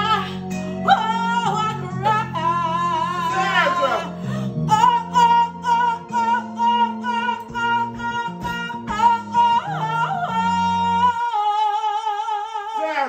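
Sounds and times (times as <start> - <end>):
backing music with bass line: 0.0 - 13.0
woman singing long notes: 0.0 - 13.0.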